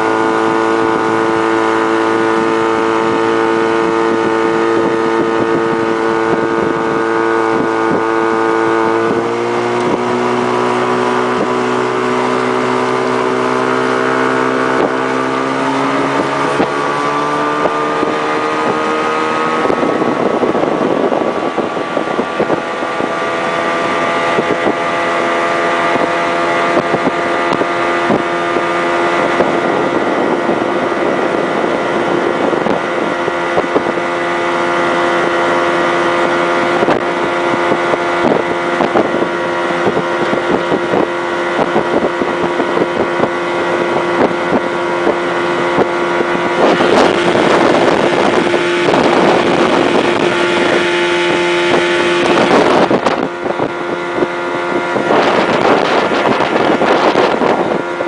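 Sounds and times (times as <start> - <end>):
outboard motor running: 0.0 - 58.0
water and wind rushing: 0.0 - 58.0.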